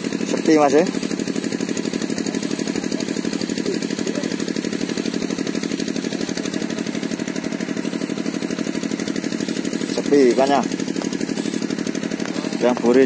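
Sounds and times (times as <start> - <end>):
engine running with fast pulse: 0.0 - 13.0.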